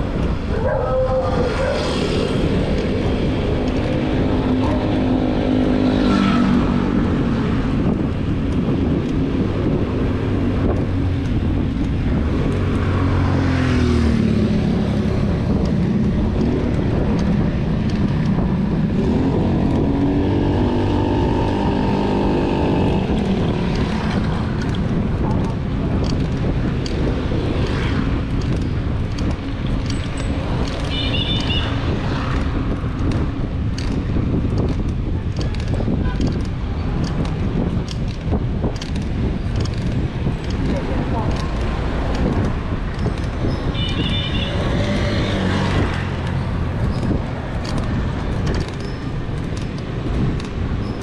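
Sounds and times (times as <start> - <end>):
vehicle engines passing: 0.0 - 51.0.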